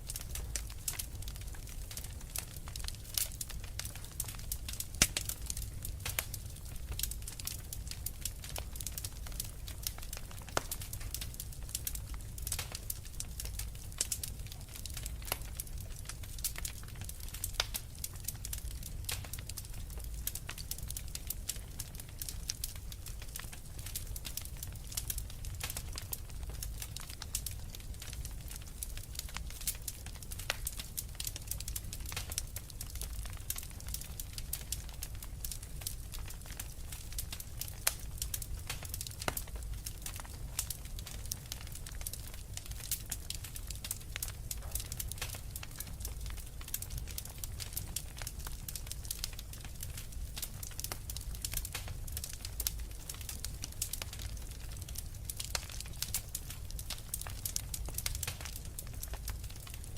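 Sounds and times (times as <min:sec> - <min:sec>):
logs crackling and snapping: 0:00.0 - 0:59.9
low rumble of flames: 0:00.0 - 0:59.9.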